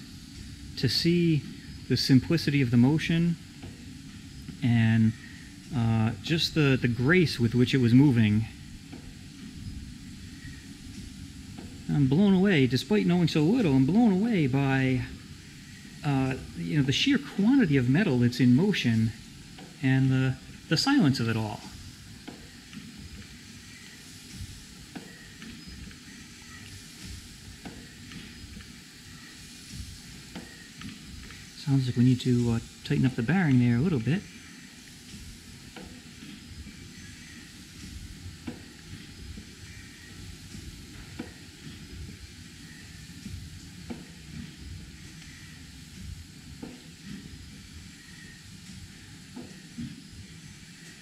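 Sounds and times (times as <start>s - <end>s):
steam engine hissing softly: 0.0s - 51.0s
light knock of steam engine: 6.2s - 51.0s.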